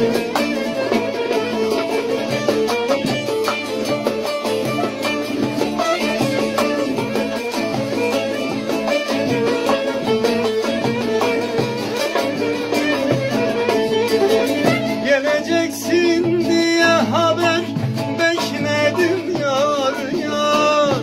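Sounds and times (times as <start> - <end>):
long-necked lute fast picked notes: 0.0 - 21.0.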